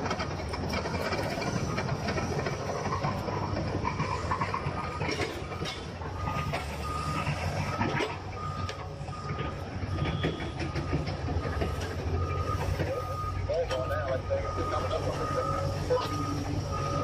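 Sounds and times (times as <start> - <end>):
engine running low: 0.0 - 17.0
vehicle reversing alarm beeping: 0.0 - 17.0.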